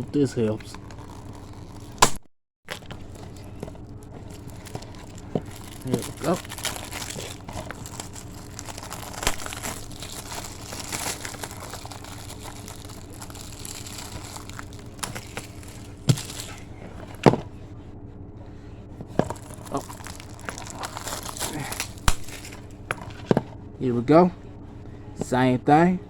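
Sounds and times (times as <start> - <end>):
plastic wrapping crinkling and tearing: 0.0 - 17.4, 19.1 - 23.3.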